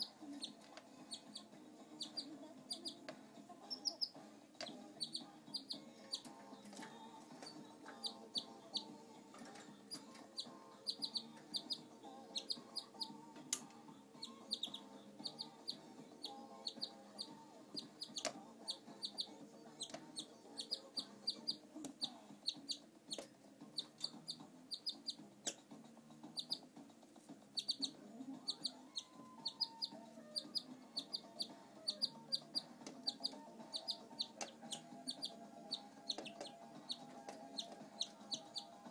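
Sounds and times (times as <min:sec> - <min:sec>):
canary chirping: 0:00.0 - 0:38.9.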